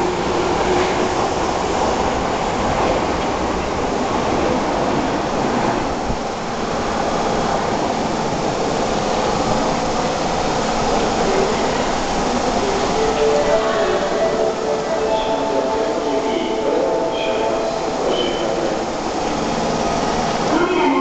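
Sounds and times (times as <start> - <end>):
train standing at platform: 0.0 - 21.0.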